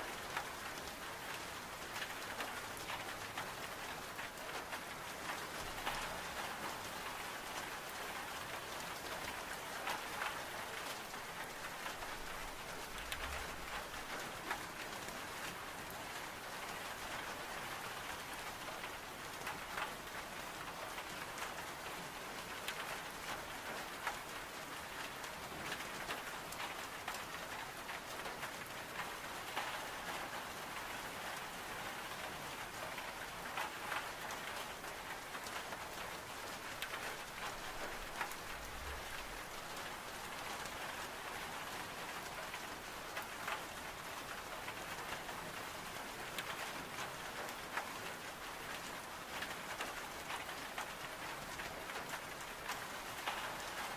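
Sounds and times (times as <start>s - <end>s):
rain on window glass: 0.0s - 53.9s.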